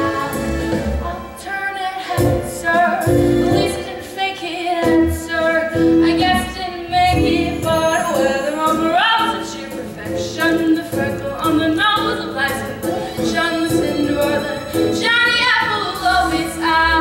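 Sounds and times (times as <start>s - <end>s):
musical accompaniment: 0.0s - 17.0s
woman singing show tune: 0.0s - 17.0s.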